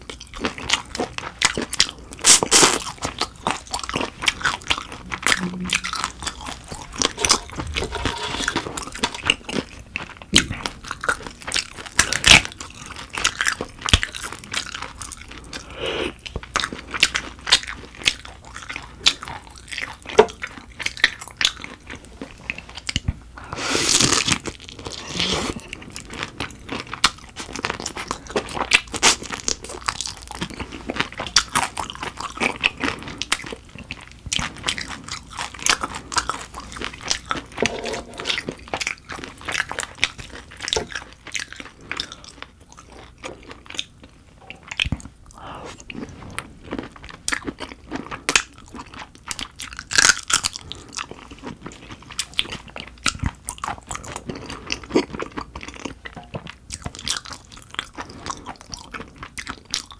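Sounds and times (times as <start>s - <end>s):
crunching and chewing shrimp shells: 0.0s - 59.9s.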